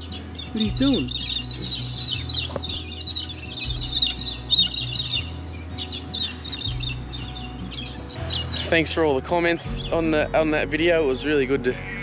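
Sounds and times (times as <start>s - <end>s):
background music with bass: 0.0s - 12.0s
small birds chirping: 0.0s - 12.0s.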